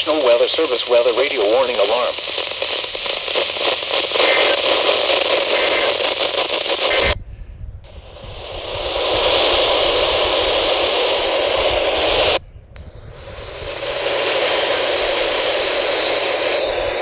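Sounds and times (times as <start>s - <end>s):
radio static hiss: 0.0s - 7.2s, 7.8s - 17.0s.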